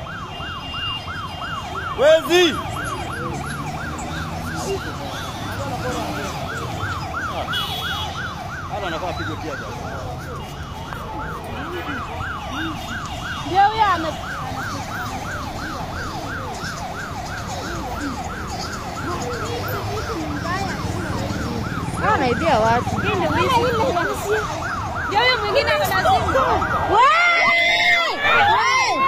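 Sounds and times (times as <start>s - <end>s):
siren yelping: 0.0s - 29.0s
street traffic rumble: 0.0s - 29.0s.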